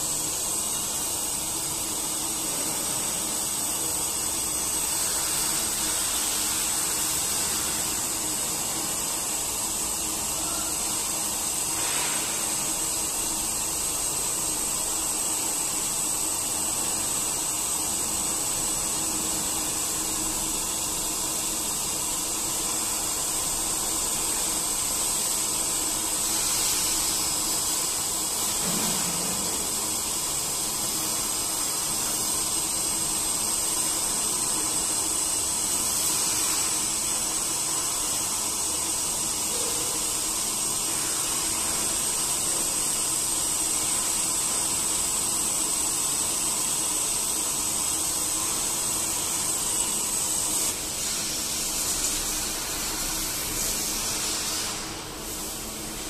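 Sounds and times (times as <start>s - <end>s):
milling machine hissing: 0.0s - 56.0s.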